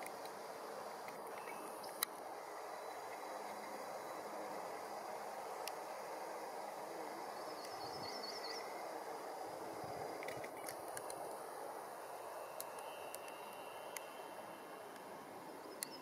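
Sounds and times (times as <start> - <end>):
woodland ambience hiss: 0.0 - 16.0.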